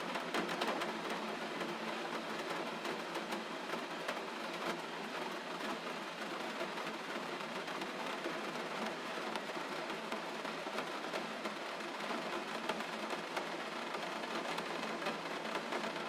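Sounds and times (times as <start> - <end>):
gentle rain pattering: 0.0 - 16.0.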